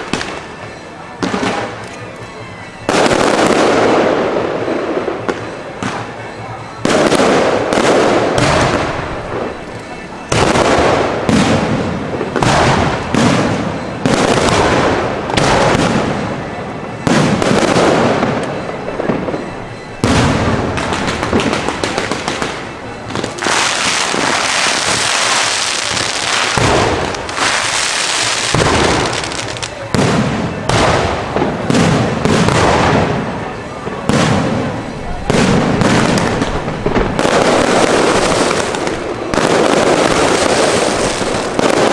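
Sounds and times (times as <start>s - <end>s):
fireworks crackling hiss: 0.0s - 41.9s
fireworks shells bursting: 0.0s - 41.9s.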